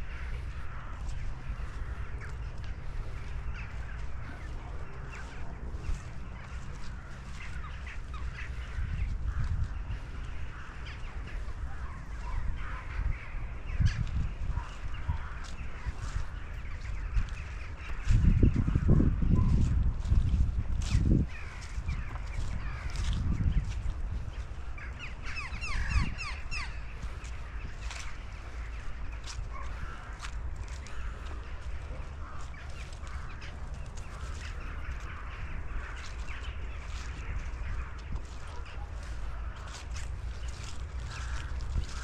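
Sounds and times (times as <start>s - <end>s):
crows cawing: 0.0s - 42.0s
low microphone rumble: 0.0s - 42.0s.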